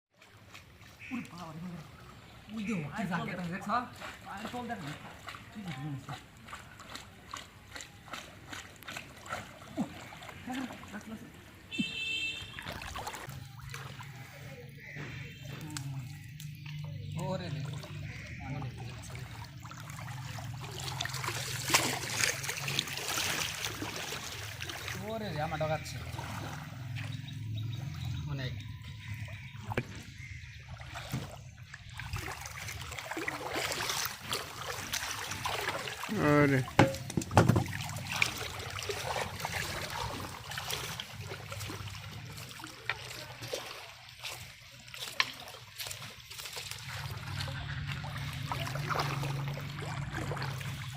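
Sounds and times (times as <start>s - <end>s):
shallow water splashing: 0.1s - 50.9s
sharp water splash: 0.2s - 28.1s, 29.6s - 50.9s.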